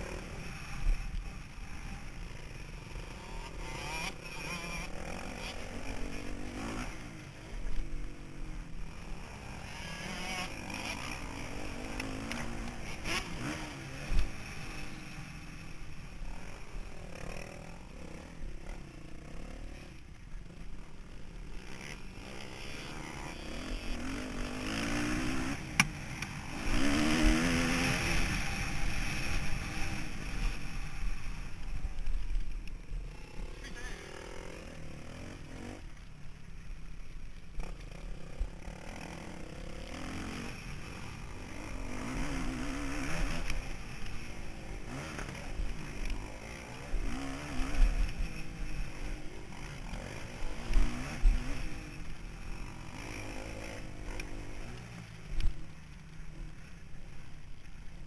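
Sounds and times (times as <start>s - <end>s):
motocross bike engine revving: 0.0s - 36.1s, 37.0s - 58.0s.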